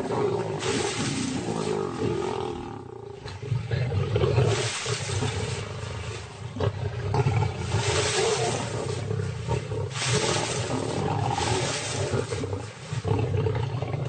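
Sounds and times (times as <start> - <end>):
lions growling and snarling: 0.0 - 14.0.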